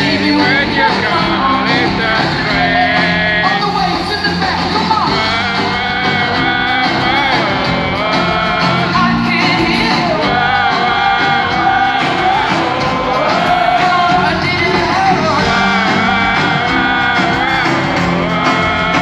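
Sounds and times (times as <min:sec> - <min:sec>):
crowd singing along: 0:00.0 - 0:19.0
live pop-rock band playing: 0:00.0 - 0:19.0.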